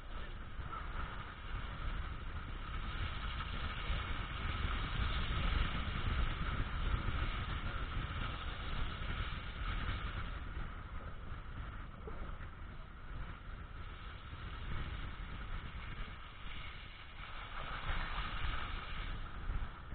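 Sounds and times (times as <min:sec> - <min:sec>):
constant hiss: 0:00.0 - 0:19.9.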